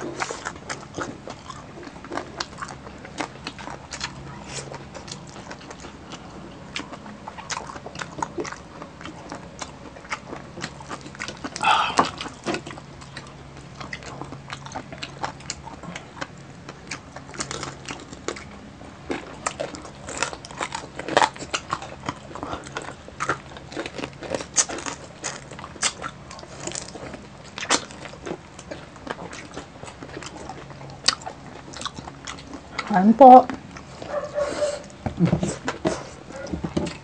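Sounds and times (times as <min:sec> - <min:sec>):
crunching crispy pork skin: 0:00.0 - 0:32.8.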